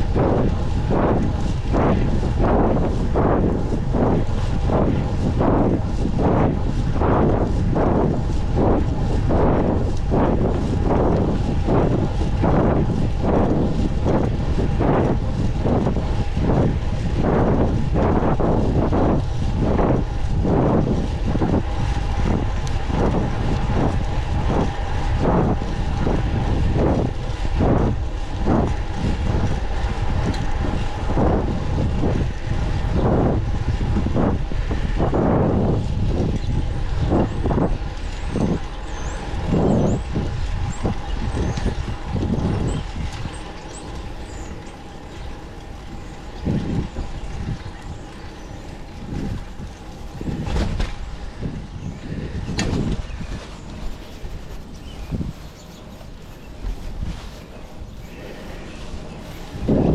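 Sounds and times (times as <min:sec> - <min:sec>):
steady hum: 0:00.0 - 0:59.9
traffic rumbling: 0:00.0 - 0:59.9
wind rushing over microphone: 0:00.0 - 0:59.9.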